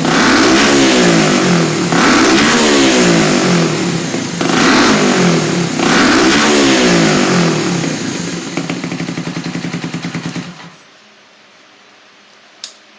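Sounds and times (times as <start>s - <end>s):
motorcycle engine revving and idling: 0.0s - 10.8s.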